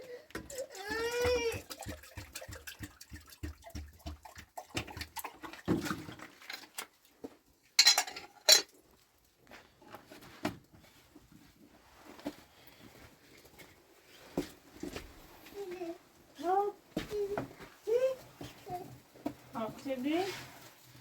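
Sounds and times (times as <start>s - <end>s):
knocks and clatters of handled objects: 0.0s - 15.6s, 16.9s - 21.0s.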